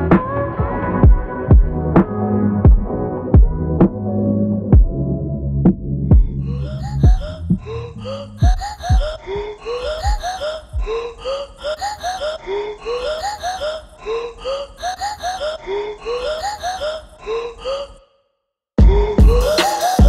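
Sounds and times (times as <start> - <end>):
looped vocal-like music: 0.0 - 5.2, 6.0 - 18.2, 18.8 - 20.0.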